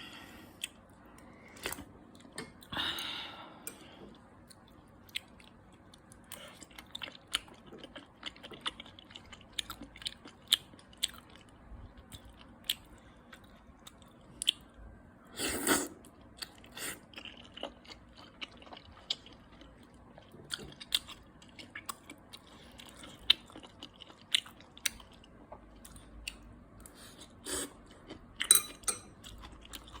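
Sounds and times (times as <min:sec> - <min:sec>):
food being chewed: 0:03.7 - 0:14.7, 0:15.7 - 0:30.0.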